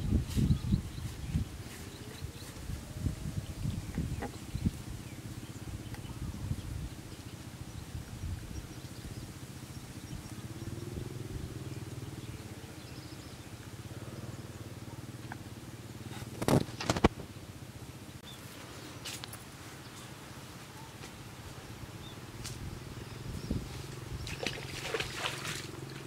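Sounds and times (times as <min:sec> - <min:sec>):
faint bird calls: 0:00.0 - 0:17.2, 0:19.7 - 0:26.0
distant engine hum: 0:00.0 - 0:26.0.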